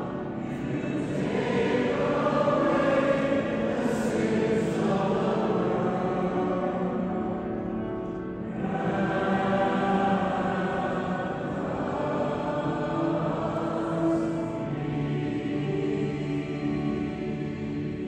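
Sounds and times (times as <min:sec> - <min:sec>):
choir singing a hymn: 0:00.0 - 0:18.0.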